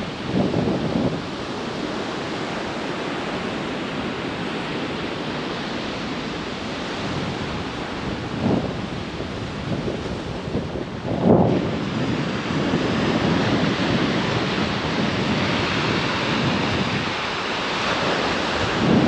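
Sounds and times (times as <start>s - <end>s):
ocean surf washing ashore: 0.0s - 19.0s
wind buffeting microphone: 0.0s - 19.0s.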